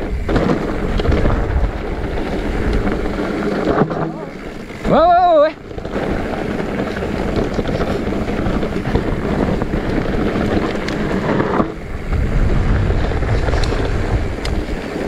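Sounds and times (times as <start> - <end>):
bike rumbling and rattling on trail: 0.0 - 15.0
wind buffeting microphone: 0.0 - 15.0.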